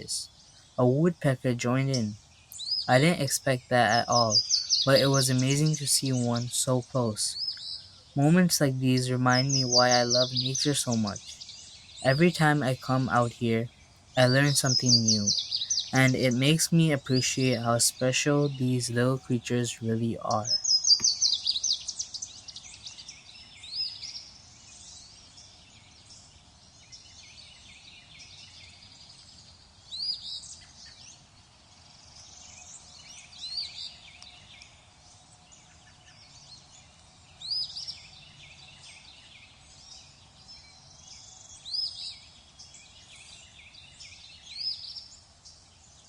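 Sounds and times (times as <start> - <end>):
faint background hiss: 0.0 - 46.0
small songbirds chirping: 0.0 - 46.0.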